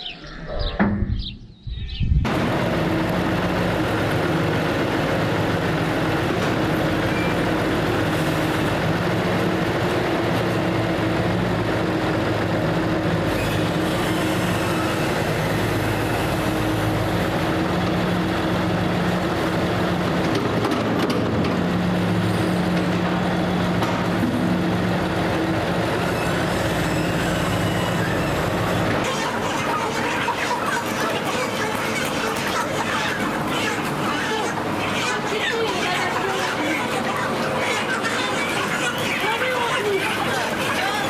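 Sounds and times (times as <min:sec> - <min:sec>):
tractor engine running: 0:02.2 - 0:41.0.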